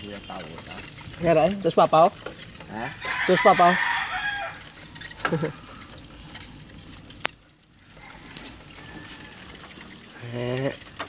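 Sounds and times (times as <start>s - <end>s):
bicycle sidecar rattling: 0.0s - 11.0s.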